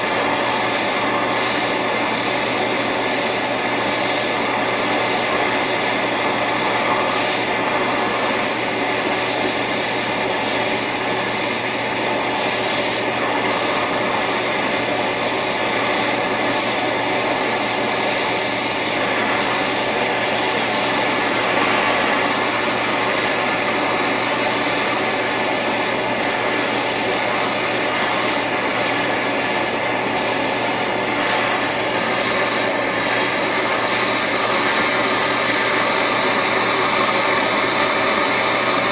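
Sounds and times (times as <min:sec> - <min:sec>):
gas torch flame hissing: 0:00.0 - 0:38.9.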